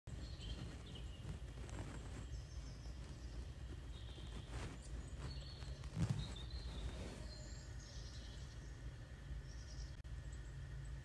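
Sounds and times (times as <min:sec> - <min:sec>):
faint bird chirps through speakers: 0:00.1 - 0:10.6
steady low hum: 0:00.1 - 0:11.0.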